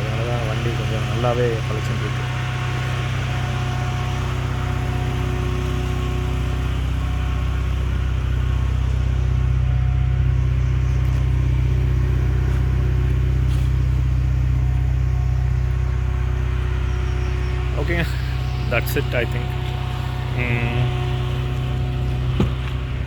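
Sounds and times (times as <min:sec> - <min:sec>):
air conditioning running: 0:00.0 - 0:23.0
car engine idling: 0:00.0 - 0:23.0.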